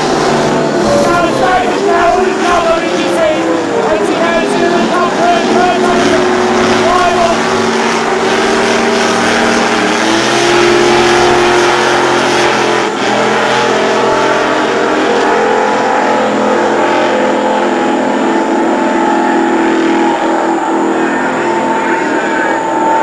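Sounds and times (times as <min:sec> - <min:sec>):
powerboat engines droning: 0:00.0 - 0:23.0.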